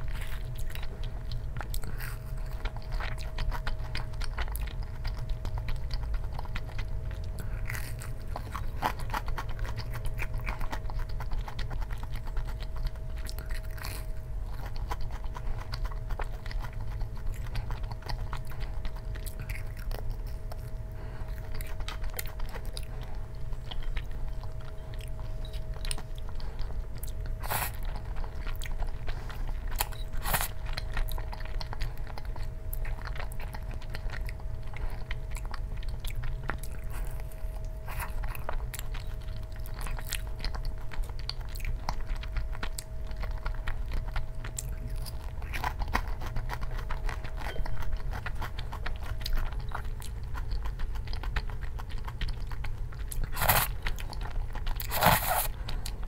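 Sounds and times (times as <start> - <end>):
chewing and biting food: 0.0 - 56.0
faint steady hum: 0.0 - 56.0.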